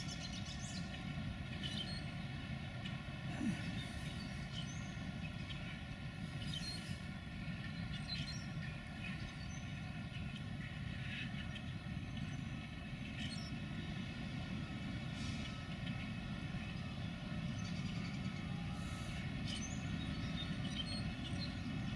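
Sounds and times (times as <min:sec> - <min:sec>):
distant train rumble: 0:00.0 - 0:21.9.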